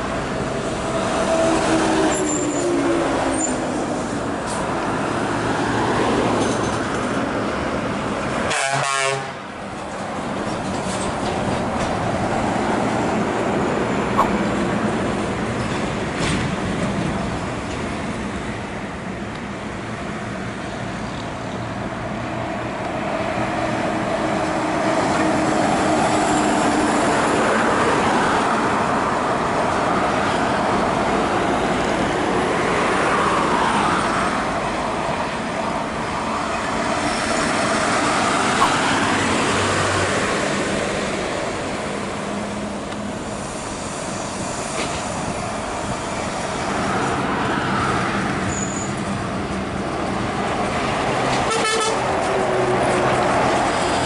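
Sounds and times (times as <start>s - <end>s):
trucks and cars passing: 0.0s - 54.0s.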